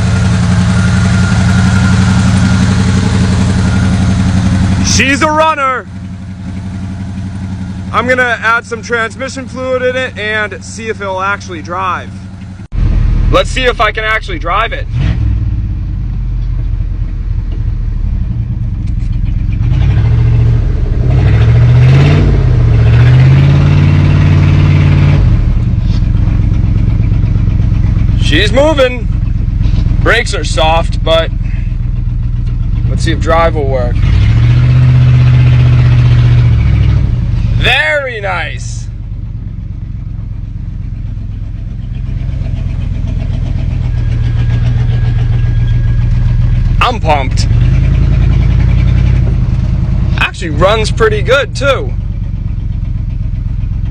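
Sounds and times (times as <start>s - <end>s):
pickup truck engine revving: 0.0s - 15.9s, 18.0s - 53.9s.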